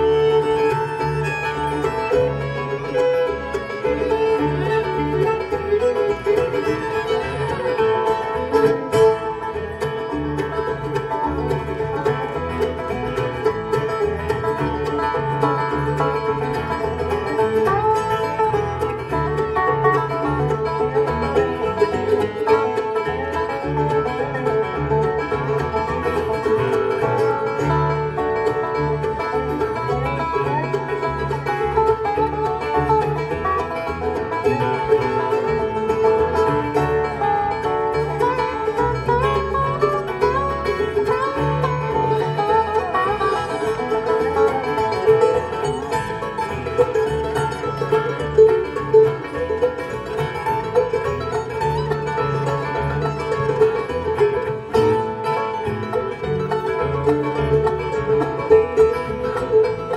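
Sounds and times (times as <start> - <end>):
banjo: 0.0 - 59.9
bluegrass band playing: 0.0 - 59.9.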